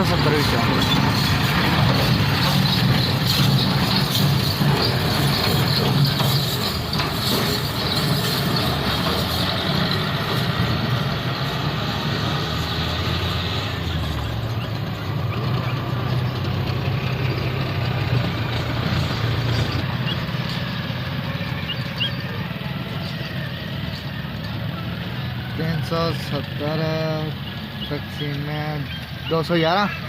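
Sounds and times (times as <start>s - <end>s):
truck engine droning: 0.0s - 30.0s.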